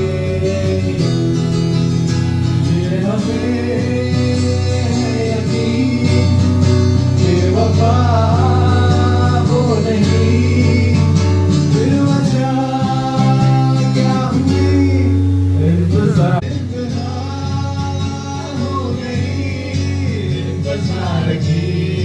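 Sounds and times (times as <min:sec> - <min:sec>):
acoustic guitar: 0:00.0 - 0:22.0
man singing: 0:00.0 - 0:22.0.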